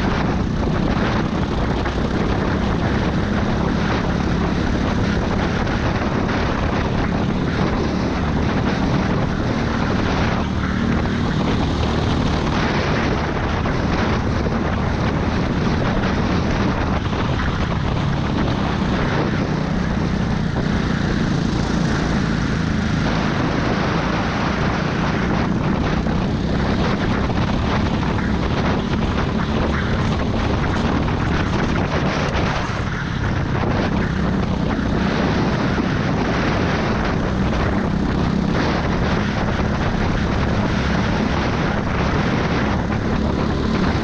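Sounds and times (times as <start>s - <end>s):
go-kart engine running: 0.0s - 44.0s.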